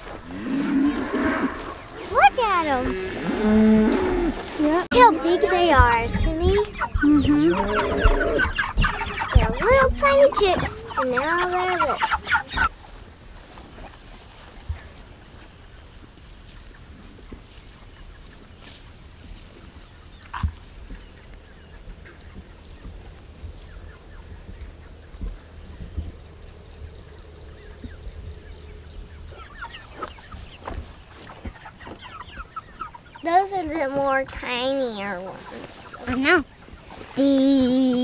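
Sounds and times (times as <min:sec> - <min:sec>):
chickens clucking: 0:00.0 - 0:38.0
insects droning: 0:00.0 - 0:38.0.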